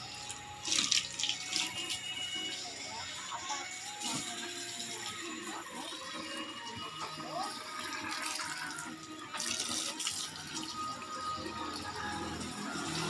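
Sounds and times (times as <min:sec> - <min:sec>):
hose water spraying on motorcycle: 0:00.0 - 0:13.0.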